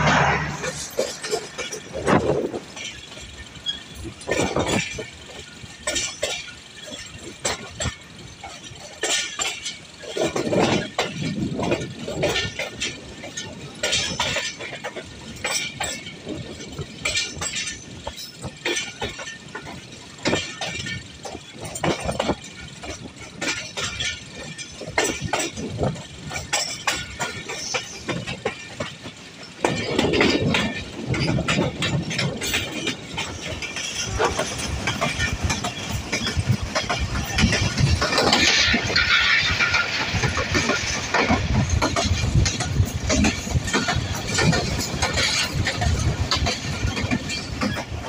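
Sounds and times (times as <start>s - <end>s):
train clattering: 0.0s - 48.0s.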